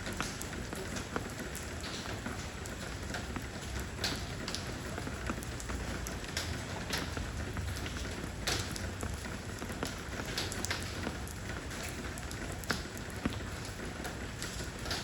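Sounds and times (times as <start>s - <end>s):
rain falling on stone: 0.0s - 15.0s
sharp drips and splats: 0.0s - 15.0s.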